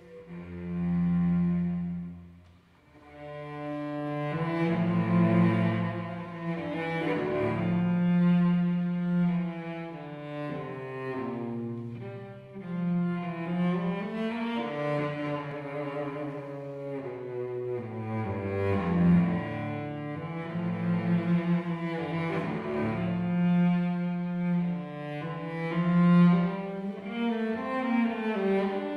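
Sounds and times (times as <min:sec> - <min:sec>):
bowed cello: 0:00.0 - 0:28.9.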